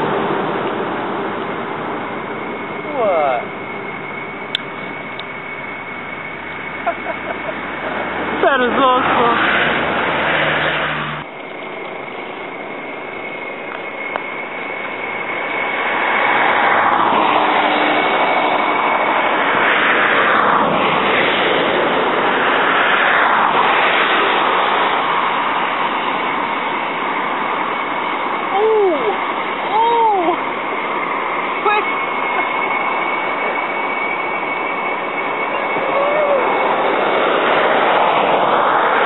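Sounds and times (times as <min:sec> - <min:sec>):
vehicles rushing past: 0:00.0 - 0:39.0.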